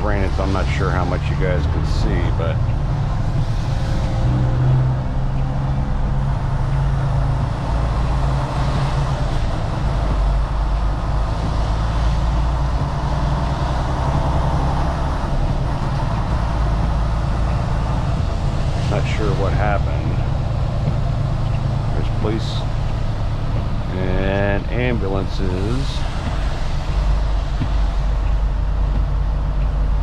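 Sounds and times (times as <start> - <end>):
tyres hissing on wet road: 0.0 - 29.6
truck engine running: 0.0 - 30.0.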